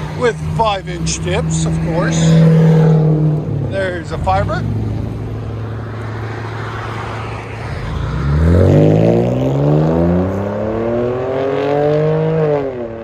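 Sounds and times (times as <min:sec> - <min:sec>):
car exhaust revving: 0:00.0 - 0:13.0.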